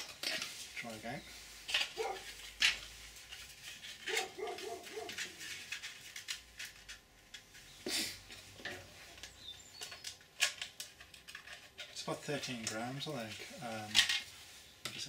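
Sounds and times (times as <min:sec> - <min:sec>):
plastic parts clicking and knocking: 0:01.7 - 0:07.7, 0:08.3 - 0:15.0.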